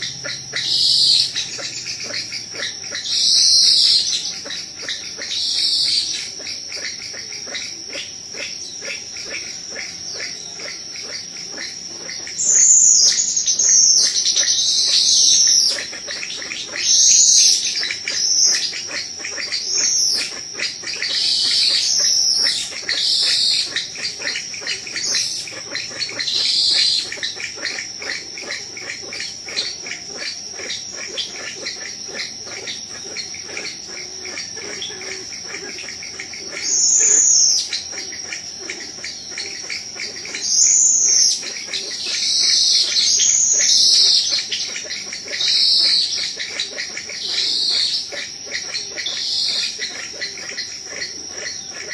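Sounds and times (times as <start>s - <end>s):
high bird calls: 0.0s - 51.9s
insects droning and chirring: 0.0s - 51.9s.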